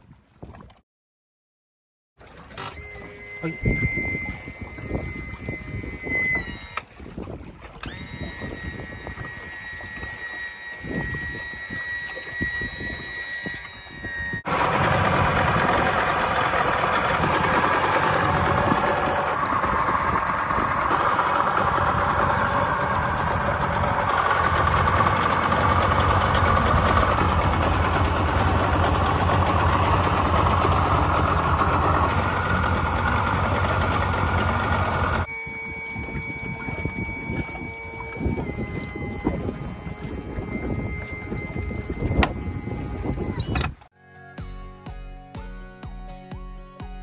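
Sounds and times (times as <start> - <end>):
outboard motor running: 2.2 - 43.9.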